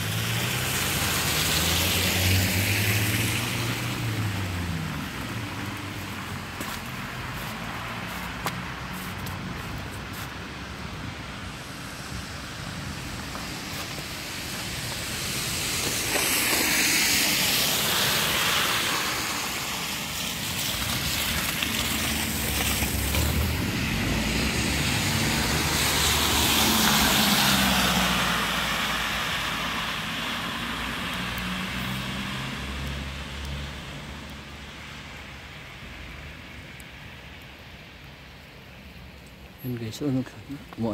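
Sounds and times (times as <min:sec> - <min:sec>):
tyres hissing on wet road: 0:00.0 - 0:40.9.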